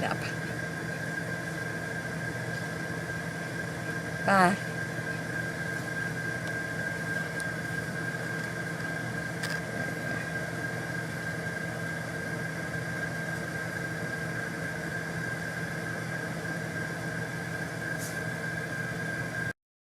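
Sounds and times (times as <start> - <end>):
motor humming with high whine: 0.0 - 19.6.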